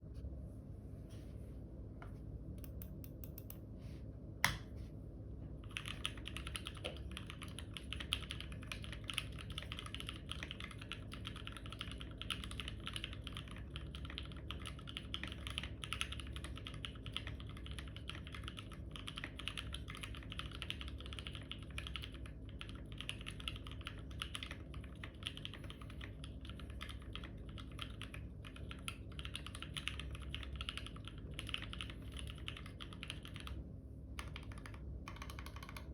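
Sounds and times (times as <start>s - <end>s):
mechanical keyboard typing: 5.6s - 33.6s, 34.2s - 35.9s.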